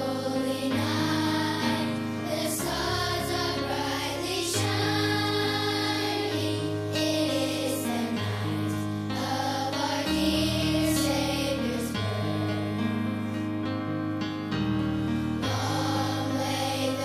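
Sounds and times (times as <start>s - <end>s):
choir singing: 0.0s - 13.4s, 15.4s - 17.0s.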